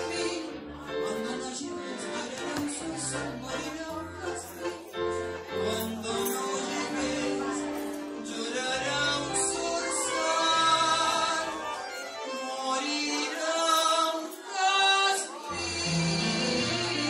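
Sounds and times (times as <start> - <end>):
bandoneon: 0.0 - 14.1
keyboard: 0.0 - 17.0.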